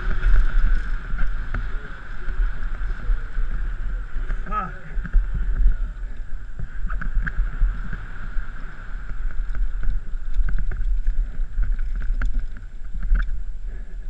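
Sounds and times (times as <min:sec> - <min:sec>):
bike clicks and rattles: 0:00.0 - 0:13.9
bike rolling over gravel: 0:00.0 - 0:14.0
wind buffeting microphone: 0:00.0 - 0:14.0.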